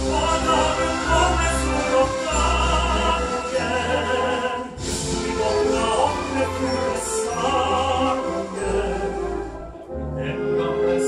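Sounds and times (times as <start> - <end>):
man singing operatically: 0.0 - 11.0
orchestra playing: 0.0 - 11.0.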